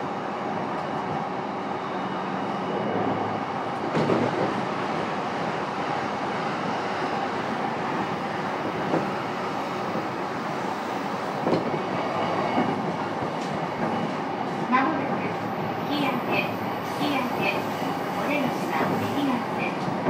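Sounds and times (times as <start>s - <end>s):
rumble of train wheels on rail: 0.0s - 20.0s.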